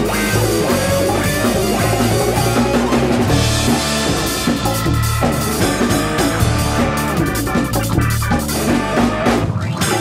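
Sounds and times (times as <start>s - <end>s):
drum kit: 0.0s - 10.0s
electric bass: 0.0s - 10.0s
electric guitar: 0.0s - 10.0s
keyboards: 0.0s - 10.0s.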